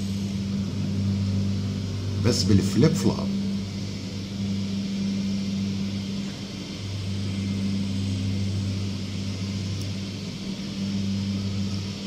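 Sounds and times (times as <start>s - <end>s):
even hiss: 0.0s - 12.0s
low hum: 0.0s - 12.0s.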